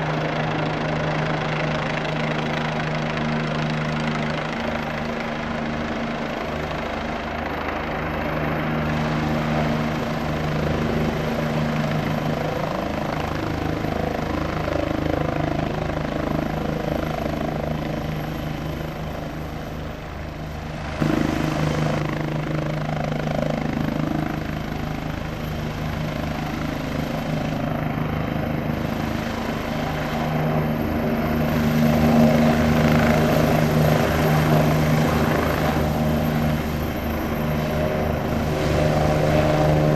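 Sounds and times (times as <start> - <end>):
helicopter engine drone: 0.0 - 39.9
helicopter rotor beating: 0.0 - 39.9.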